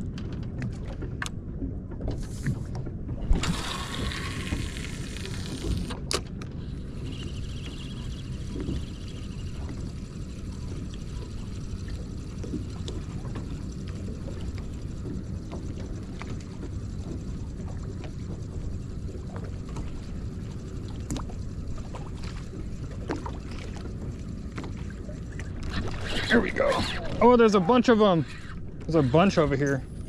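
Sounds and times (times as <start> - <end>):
boat on open water: 0.0 - 30.0.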